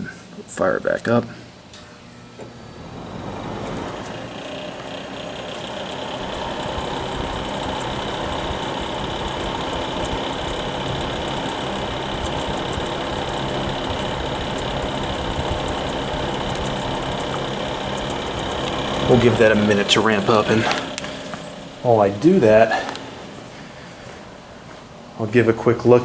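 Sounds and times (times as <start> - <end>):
space heater fan running: 0.0 - 26.0.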